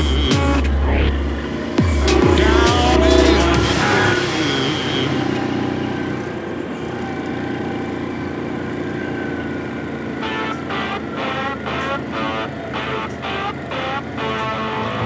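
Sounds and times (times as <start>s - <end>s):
atv engine droning: 0.0s - 15.0s.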